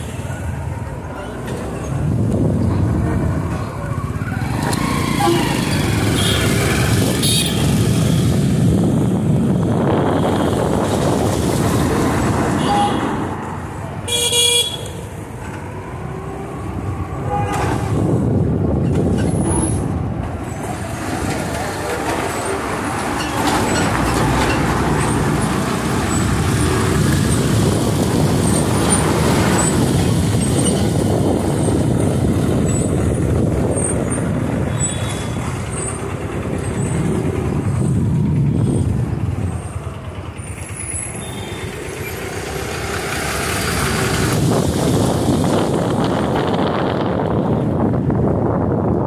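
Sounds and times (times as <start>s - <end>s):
bus passing close: 0.0s - 14.1s, 15.0s - 49.0s.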